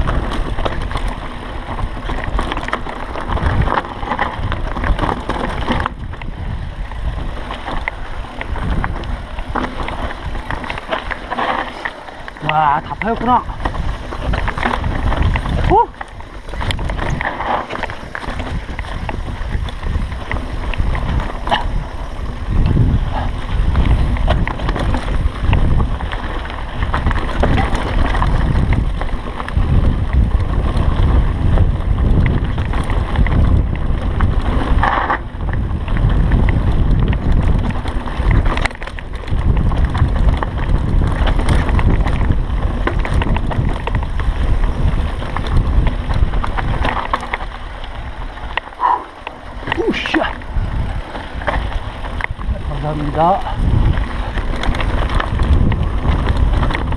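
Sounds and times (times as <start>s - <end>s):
bike knocking over bumps: 0.0s - 56.9s
mountain bike rattling on dirt: 0.0s - 56.9s
wind buffeting microphone: 0.0s - 56.9s.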